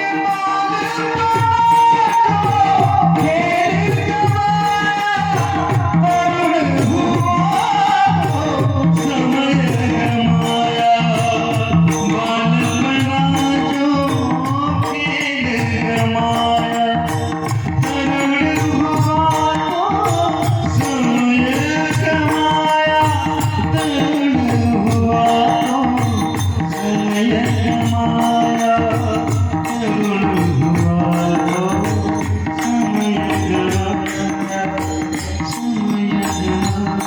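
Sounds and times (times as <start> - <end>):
devotional folk song: 0.0 - 37.0
hand drum beat: 0.0 - 37.0.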